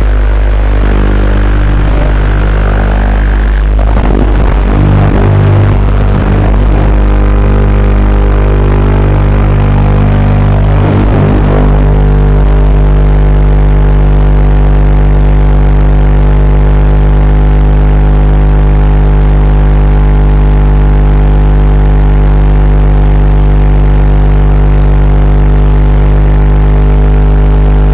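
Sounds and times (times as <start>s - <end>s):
electrical buzzing hum: 0.0s - 27.9s.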